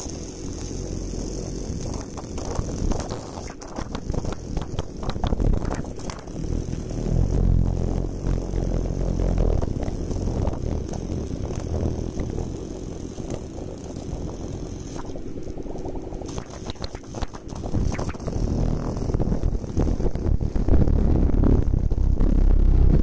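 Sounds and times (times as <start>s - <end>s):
plasma arc buzzing and crackling: 0.0s - 23.0s.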